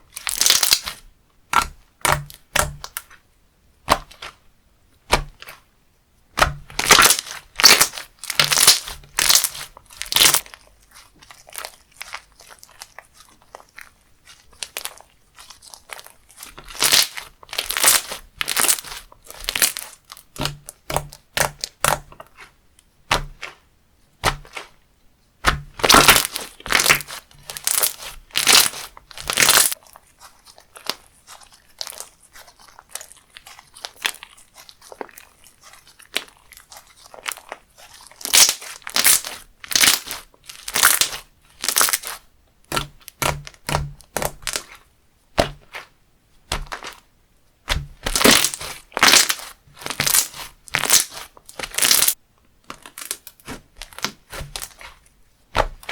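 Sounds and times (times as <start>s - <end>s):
slime crackling and popping: 0.1s - 3.2s, 6.4s - 23.6s, 24.2s - 24.8s, 25.4s - 44.8s, 45.4s - 55.9s.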